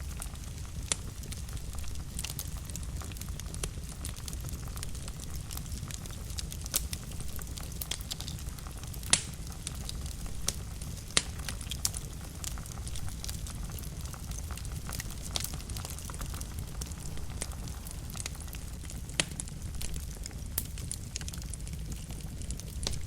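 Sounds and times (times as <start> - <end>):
low rumble of flame: 0.0 - 23.0
wood fire crackles and pops: 0.0 - 23.0.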